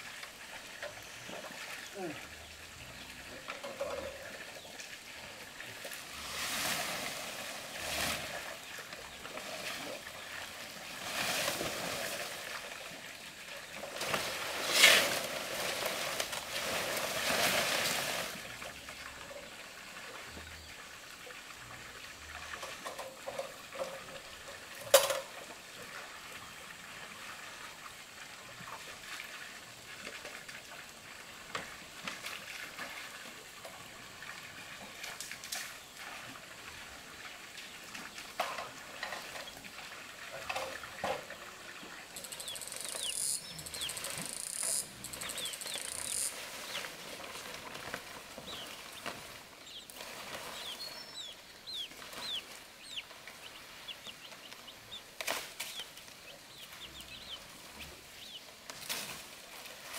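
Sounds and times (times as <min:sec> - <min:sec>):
water splashing and trickling: 0:00.0 - 0:59.9.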